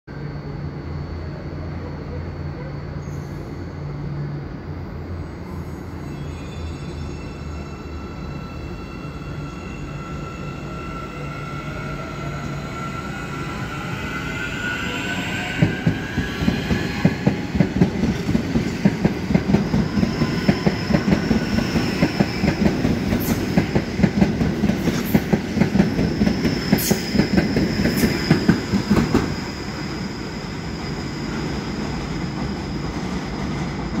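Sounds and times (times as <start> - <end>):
electric train whine: 0.1 - 34.0
train rumble: 1.3 - 34.0.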